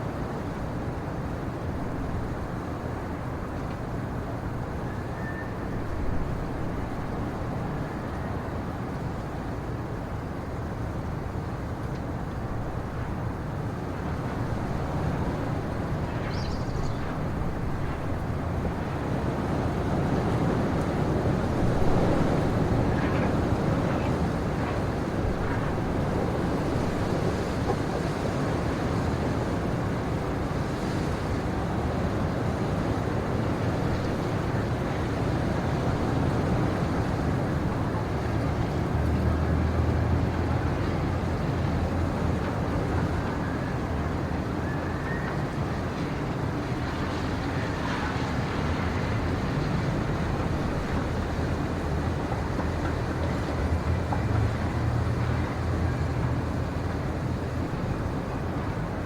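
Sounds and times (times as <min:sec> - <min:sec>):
wind rushing through pine trees: 0:00.0 - 0:59.0.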